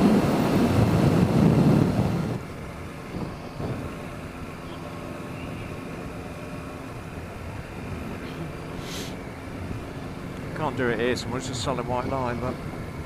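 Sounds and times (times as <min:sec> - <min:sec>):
wind buffeting microphone: 0:00.0 - 0:08.5, 0:09.5 - 0:13.0
motorcycle engine: 0:00.0 - 0:13.0.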